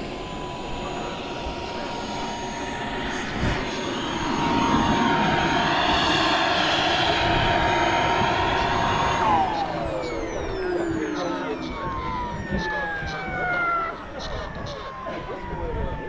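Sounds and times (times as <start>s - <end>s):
model jet turbine whining: 0.0s - 16.0s.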